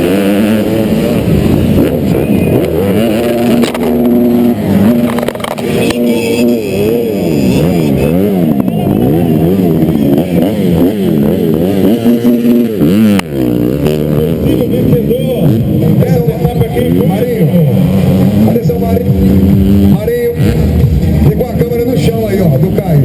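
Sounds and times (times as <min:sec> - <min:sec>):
motocross engines revving: 0:00.0 - 0:23.0.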